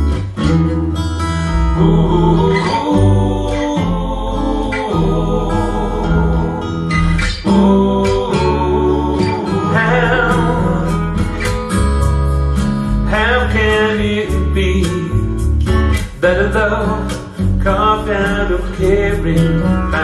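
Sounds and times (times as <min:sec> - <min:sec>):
acoustic guitar and bass song: 0:00.0 - 0:20.0.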